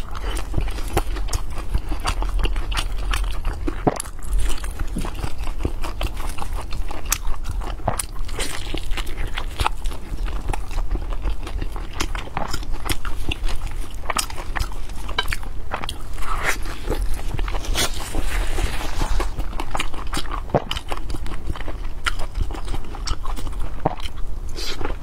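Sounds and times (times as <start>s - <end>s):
woman chewing and mouth sounds: 0.0s - 25.0s.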